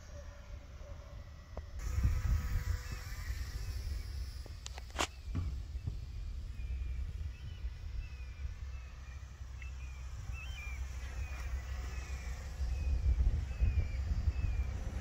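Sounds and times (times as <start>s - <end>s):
faint electric motor whine: 0.0s - 15.0s
wind buffeting microphone: 1.6s - 15.0s
small birds chirping: 2.6s - 15.0s.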